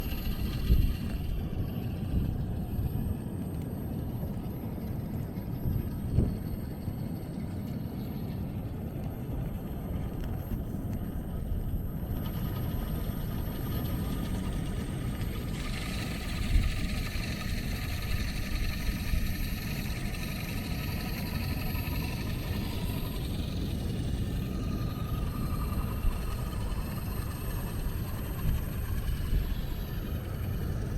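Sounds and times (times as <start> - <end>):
electric motor and gears whining: 0.0 - 30.9
low rumbling noise: 0.0 - 30.9.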